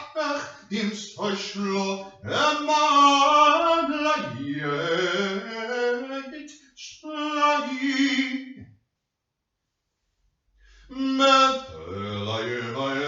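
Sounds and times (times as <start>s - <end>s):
person singing or chanting: 0.0s - 8.5s, 10.9s - 13.0s.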